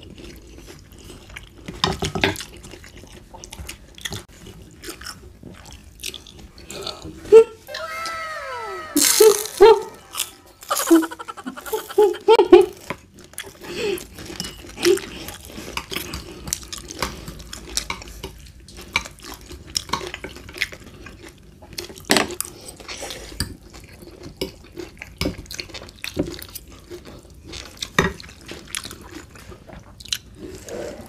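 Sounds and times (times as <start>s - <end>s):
close-up eating sounds: 0.0s - 31.0s.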